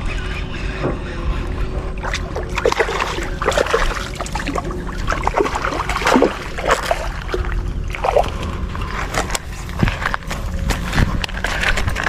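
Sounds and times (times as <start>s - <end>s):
low rumble: 0.0s - 12.0s
water sloshing and splashing: 0.0s - 12.0s.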